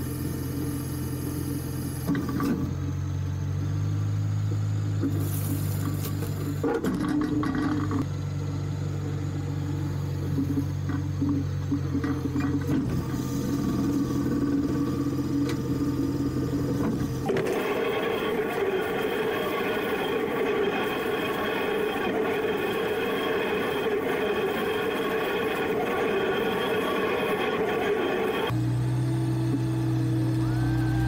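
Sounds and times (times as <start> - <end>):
tractor and bale wrapper drone: 0.0 - 31.0.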